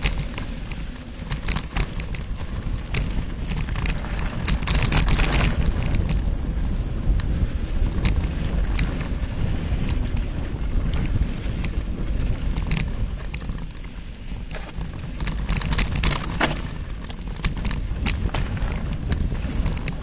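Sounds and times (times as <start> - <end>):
bike rattling and clicking: 0.0 - 20.0
bike tyres rumbling on dirt: 0.0 - 20.0
wind on microphone: 0.0 - 20.0.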